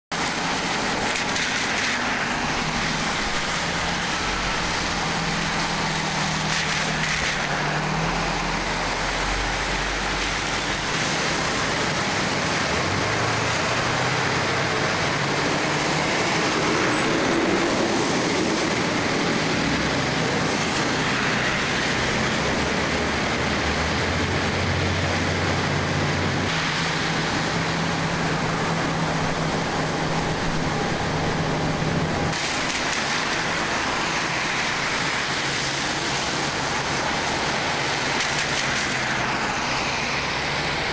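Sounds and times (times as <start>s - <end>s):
tyres splashing through water: 0.1s - 40.9s.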